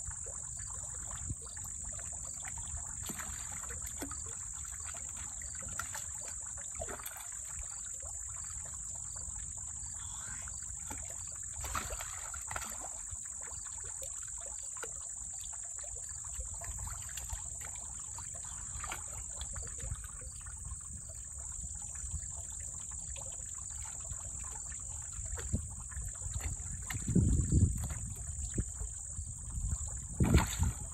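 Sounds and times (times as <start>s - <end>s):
water splashing and sloshing: 0.0s - 30.9s.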